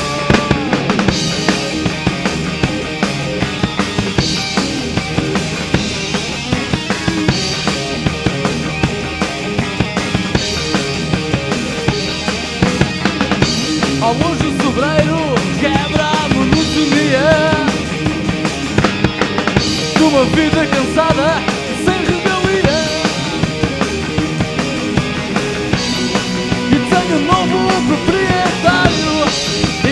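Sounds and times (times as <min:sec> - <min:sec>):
drum kit beat: 0:00.0 - 0:29.9
electric guitar: 0:00.0 - 0:29.9
lead guitar melody with bending pitch: 0:00.0 - 0:29.9.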